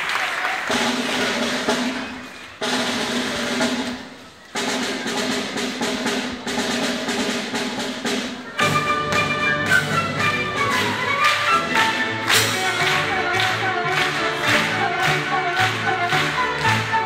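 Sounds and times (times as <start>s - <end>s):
drum roll: 0.0s - 17.0s.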